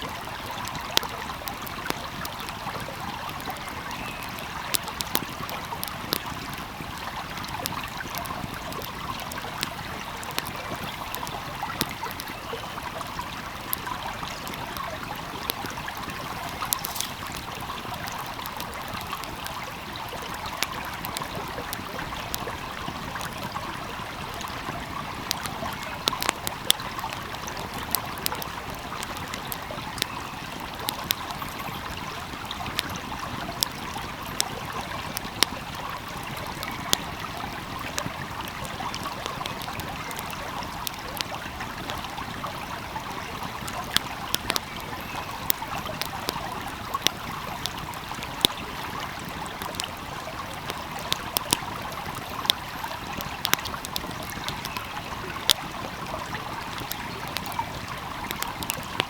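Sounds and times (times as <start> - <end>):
stream flowing: 0.0 - 59.0
wood fire crackling: 0.0 - 59.0.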